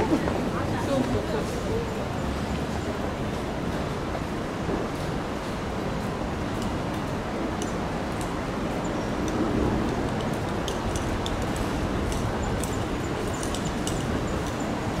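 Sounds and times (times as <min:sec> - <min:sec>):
passers-by: 0:00.0 - 0:15.0
traffic hum: 0:00.0 - 0:15.0.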